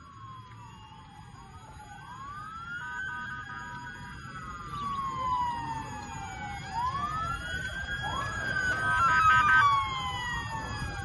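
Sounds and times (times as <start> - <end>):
low background noise: 0.0 - 11.0
sirens wailing: 0.0 - 11.0
warbling siren: 0.0 - 11.0.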